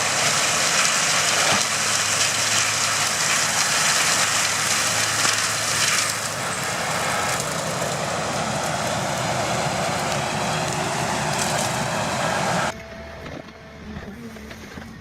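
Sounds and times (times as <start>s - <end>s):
loud hissing grinding: 0.0s - 12.7s
machinery engine hum: 0.0s - 15.0s.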